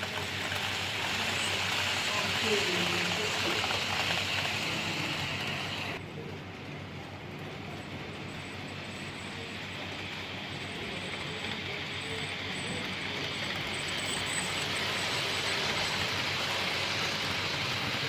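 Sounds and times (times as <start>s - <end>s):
model train rolling on track: 0.0s - 18.0s.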